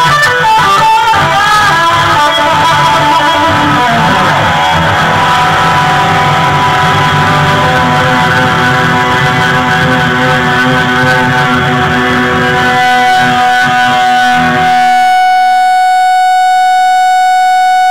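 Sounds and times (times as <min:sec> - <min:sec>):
electric guitar chords strummed: 0:00.0 - 0:17.9
guitar feedback tone: 0:00.0 - 0:17.9.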